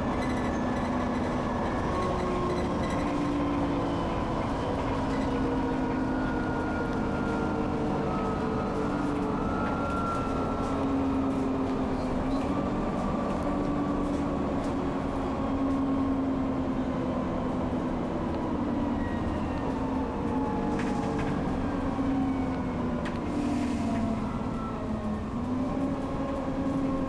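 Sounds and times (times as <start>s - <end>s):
bus engine drone: 0.0s - 27.0s
road noise: 0.0s - 27.0s.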